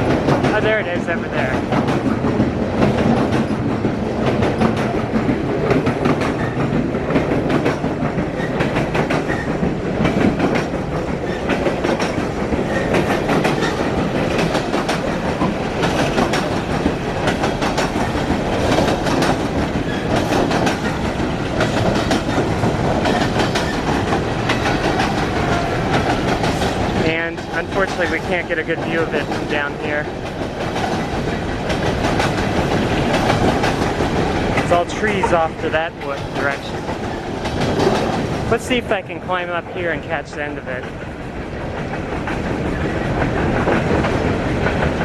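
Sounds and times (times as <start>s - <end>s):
train rumble: 0.0s - 45.0s
train wheels clacking on rails: 0.0s - 45.0s.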